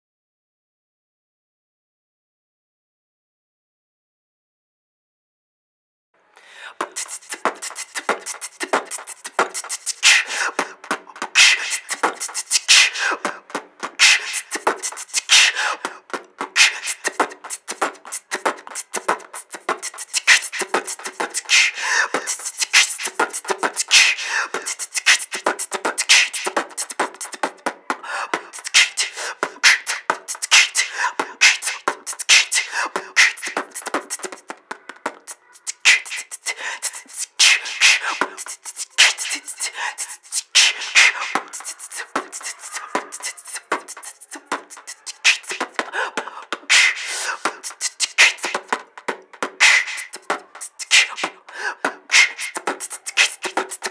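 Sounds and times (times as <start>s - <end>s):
beatboxing: 6.5s - 53.9s.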